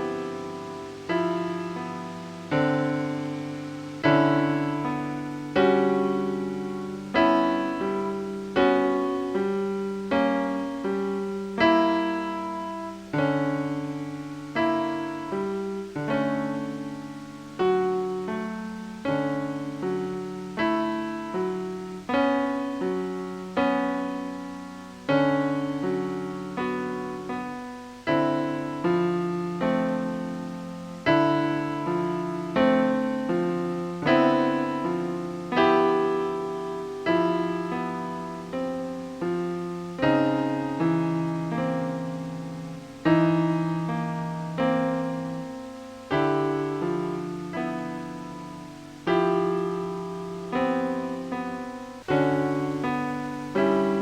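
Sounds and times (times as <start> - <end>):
slow piano-like keyboard music: 0.0 - 54.0.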